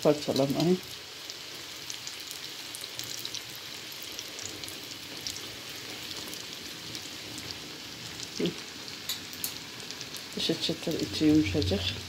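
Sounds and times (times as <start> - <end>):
dough deep-frying in hot oil: 0.0 - 12.0.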